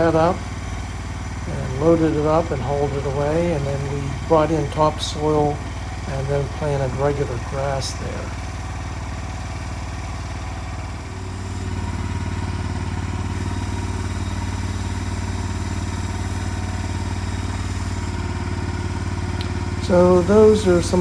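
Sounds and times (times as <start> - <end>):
skid steer engine running: 0.0 - 21.0.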